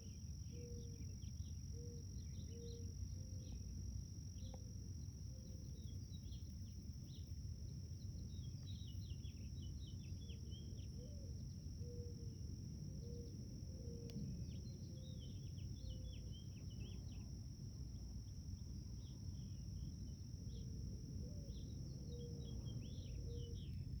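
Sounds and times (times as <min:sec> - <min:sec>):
constant low rumble: 0:00.0 - 0:24.0
high-pitched insect drone: 0:00.0 - 0:24.0.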